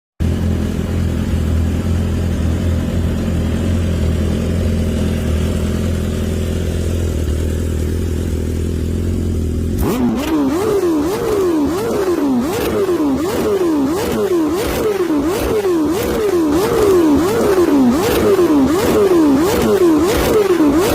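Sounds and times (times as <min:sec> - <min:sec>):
motorbike idling and revving: 0:00.2 - 0:20.9.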